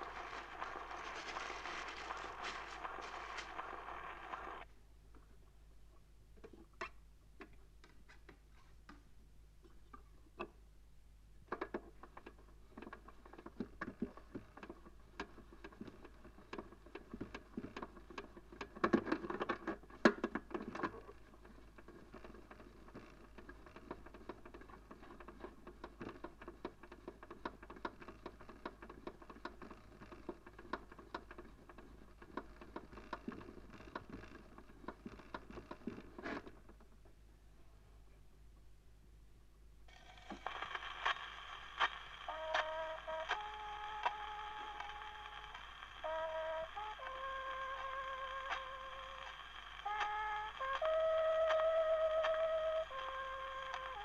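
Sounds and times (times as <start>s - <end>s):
record surface crackle and pops: 0.0s - 9.0s, 11.3s - 37.5s, 39.9s - 54.0s.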